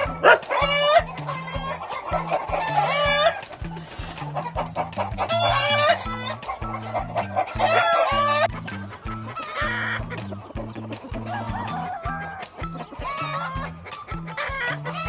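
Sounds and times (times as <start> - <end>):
background music with bass line: 0.0 - 15.0
roosters crowing: 0.0 - 15.0.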